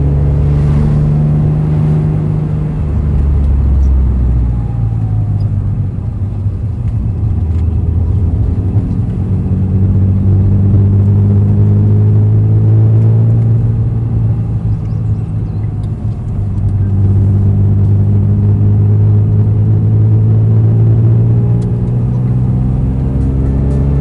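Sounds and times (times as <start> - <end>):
car engine cruising: 0.0 - 24.0.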